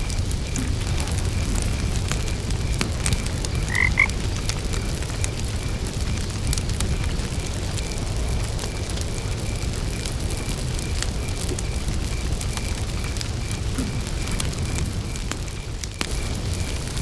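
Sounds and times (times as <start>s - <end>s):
cricket chirping: 0.0s - 17.0s
fire crackles and pops: 0.0s - 17.0s
low rumble of fire: 0.0s - 17.0s.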